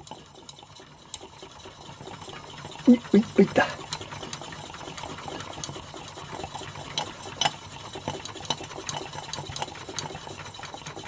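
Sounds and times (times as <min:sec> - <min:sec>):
gritty scraping of piston lapping: 0:00.0 - 0:11.0.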